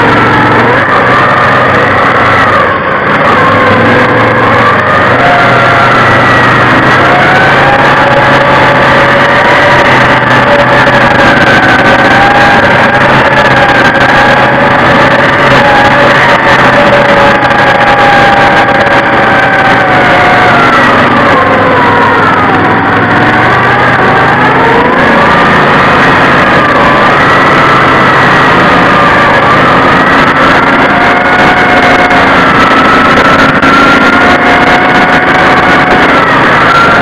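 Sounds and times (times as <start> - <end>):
vehicle engines whining: 0.0 - 37.0.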